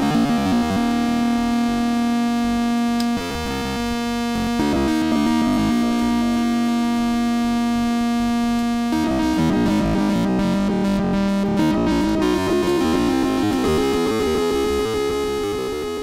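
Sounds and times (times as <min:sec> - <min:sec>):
lo-fi synthesizer notes: 0:00.0 - 0:16.0.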